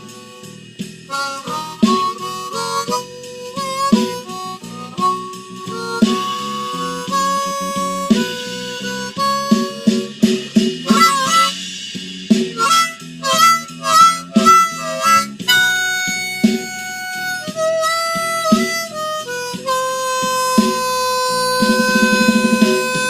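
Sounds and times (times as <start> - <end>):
blues harmonica solo: 0.0 - 23.0
drum and bass backing: 0.0 - 23.0.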